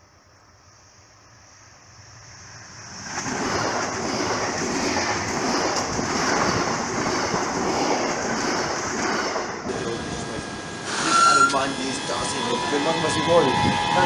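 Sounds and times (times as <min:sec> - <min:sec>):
electric train passing: 0:00.0 - 0:14.0
wheels rushing on rails: 0:00.0 - 0:14.0.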